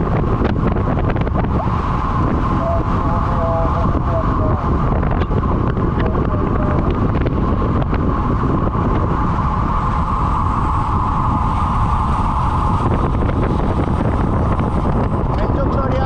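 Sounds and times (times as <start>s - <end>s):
mid-pitched hum: 0.0s - 16.0s
wind buffeting microphone: 0.0s - 16.0s.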